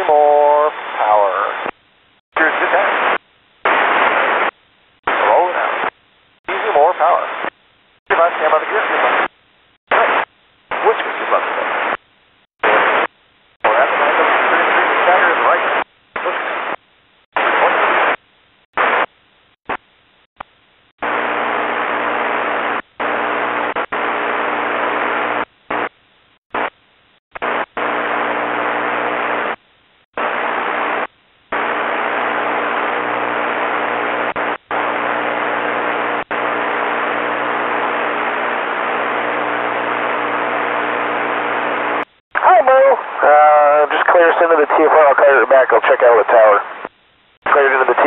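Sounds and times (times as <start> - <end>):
radio static hiss bursts: 0.0 - 1.8, 2.4 - 18.2, 18.8 - 26.8, 27.4 - 29.6, 30.2 - 48.0.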